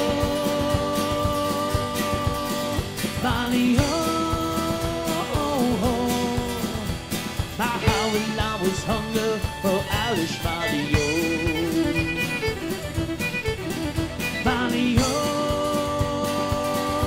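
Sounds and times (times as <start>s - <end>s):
man singing long held notes: 0.0s - 12.6s, 14.3s - 17.0s
band accompaniment: 0.0s - 17.0s
strummed acoustic guitar: 0.0s - 17.0s.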